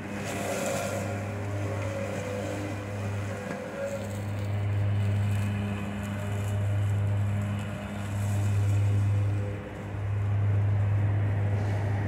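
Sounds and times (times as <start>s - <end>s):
mower engine humming: 0.0s - 12.0s.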